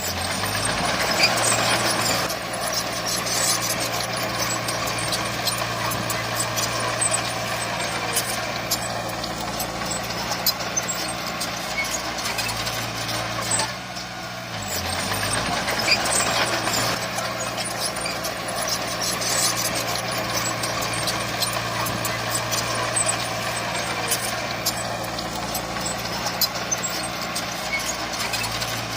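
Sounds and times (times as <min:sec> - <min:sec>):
heavy diesel machinery running: 0:00.0 - 0:28.9
scattered clicks and clatter: 0:00.1 - 0:13.9, 0:14.6 - 0:28.9.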